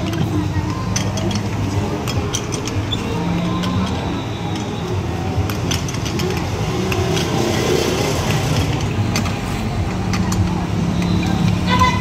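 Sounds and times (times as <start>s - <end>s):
indistinct voices: 0.0s - 12.0s
traffic running steadily: 0.0s - 12.0s.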